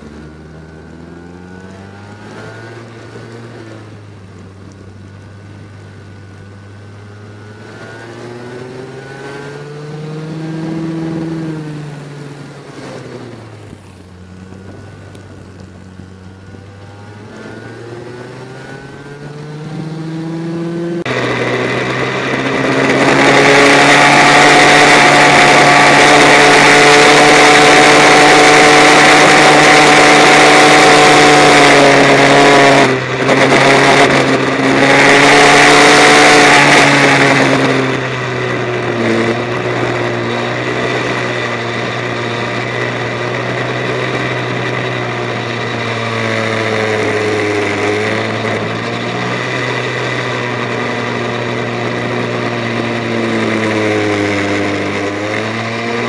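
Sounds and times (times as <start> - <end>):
kart engine at high revs: 0.0 - 56.0.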